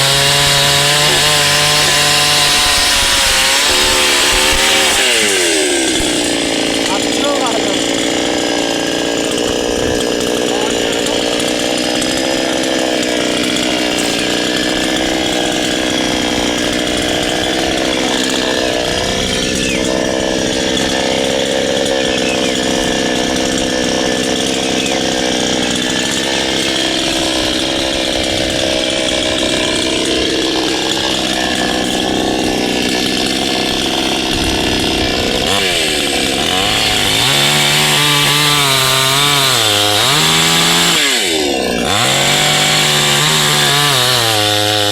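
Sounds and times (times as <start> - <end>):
chainsaw running at high speed: 0.0 - 44.9.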